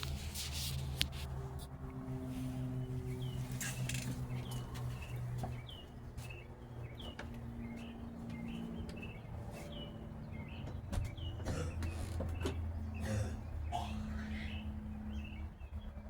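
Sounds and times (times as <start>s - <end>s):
steady low hum: 0.0s - 16.0s
bird chirping: 3.0s - 16.0s.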